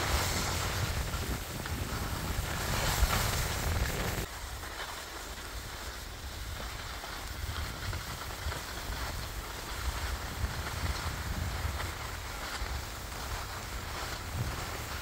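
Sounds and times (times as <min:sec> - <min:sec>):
wind buffeting microphone: 0:00.0 - 0:04.3, 0:06.1 - 0:15.0
skis hissing over snow: 0:00.0 - 0:15.0.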